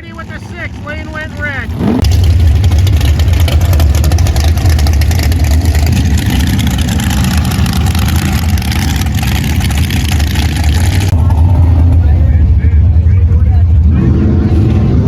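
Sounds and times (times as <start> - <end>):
drag race car engine running: 0.0 - 15.0.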